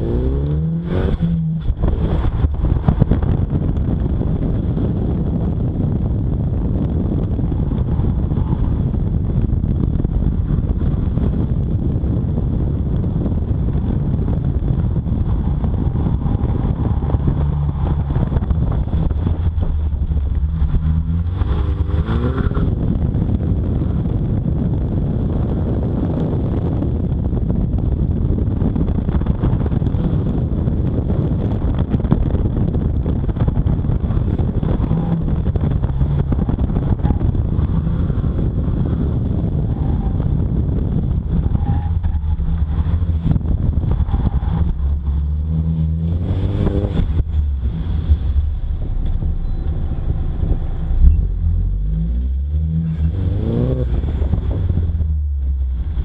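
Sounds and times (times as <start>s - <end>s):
car engine revving: 0.0s - 24.4s, 28.5s - 56.0s
wind rushing past microphone: 0.0s - 56.0s.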